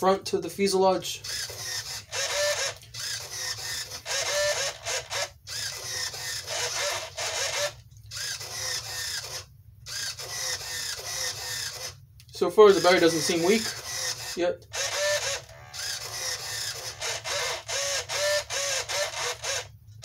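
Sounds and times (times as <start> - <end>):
servo motors whining: 1.2 - 12.0, 12.7 - 19.7.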